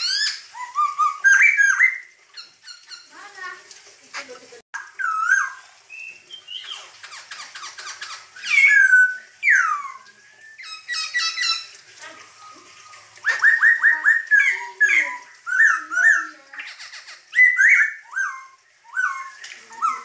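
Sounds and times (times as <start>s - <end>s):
bird singing whistled notes and trills: 0.0s - 3.2s, 4.8s - 11.7s, 12.9s - 20.0s.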